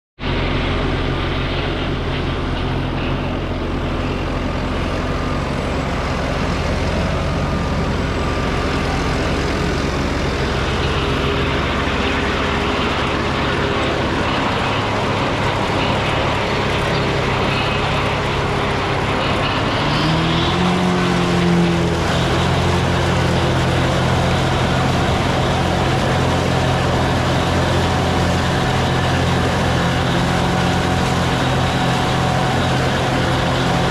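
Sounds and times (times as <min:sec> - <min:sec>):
tractor engine running: 0:00.2 - 0:33.9.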